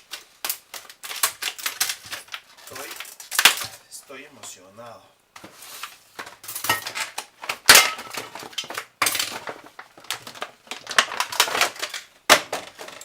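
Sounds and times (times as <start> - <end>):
plastic packaging crackling: 0.0 - 3.9, 5.4 - 13.0
parts clattering: 0.0 - 4.6, 5.4 - 13.0.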